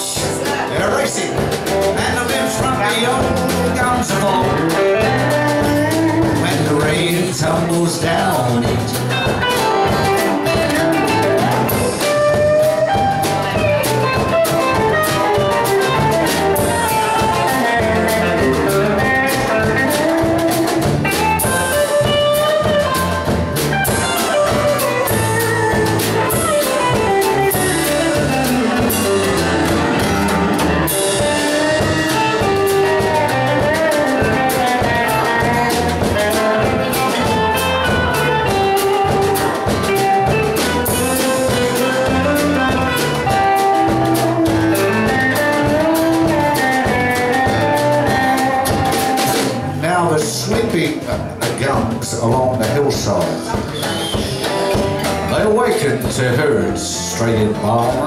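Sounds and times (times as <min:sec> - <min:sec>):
country band playing: 0:00.0 - 0:58.0.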